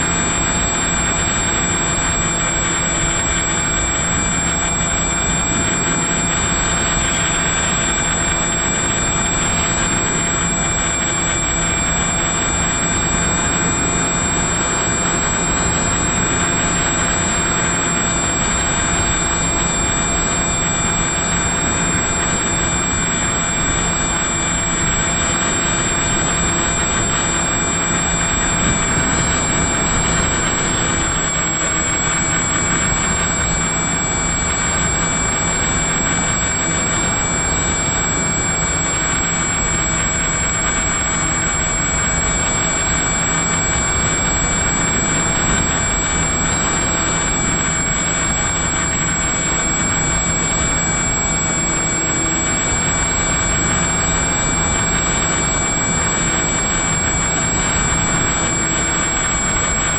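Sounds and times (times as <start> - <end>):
model aircraft motor whine: 0.0 - 59.9
wind noise: 0.0 - 59.9.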